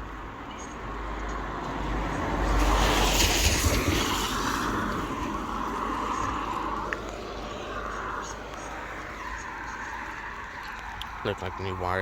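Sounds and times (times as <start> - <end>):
car passing on wet road: 0.9 - 12.0.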